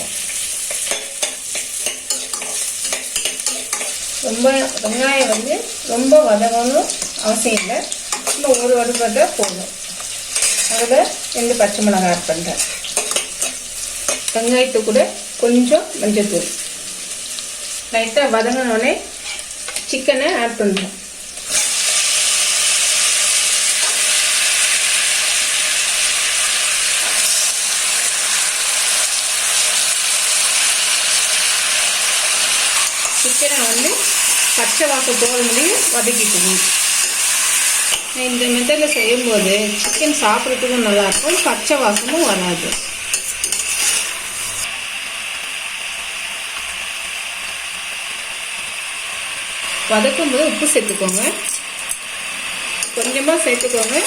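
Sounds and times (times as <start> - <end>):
chicken frying in oil: 0.0 - 54.0.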